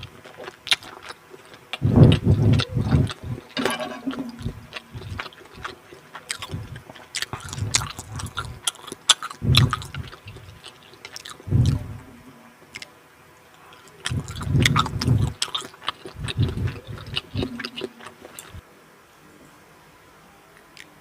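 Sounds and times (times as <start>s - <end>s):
chewing food: 0.0s - 12.9s, 13.6s - 18.6s.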